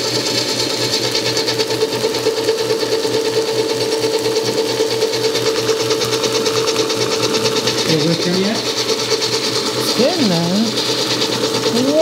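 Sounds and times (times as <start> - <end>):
stand mixer motor humming: 0.0 - 12.0
wire whip beating cream: 0.0 - 12.0.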